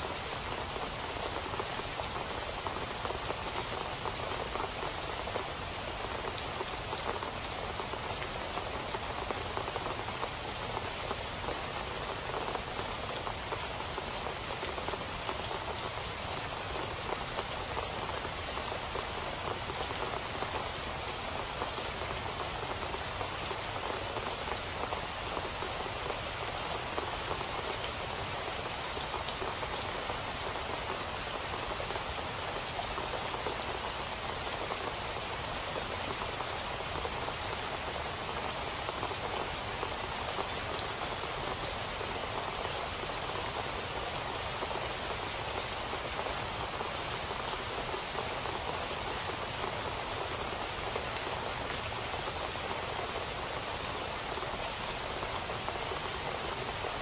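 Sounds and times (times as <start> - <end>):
heavy rain splashing into water: 0.0 - 57.0.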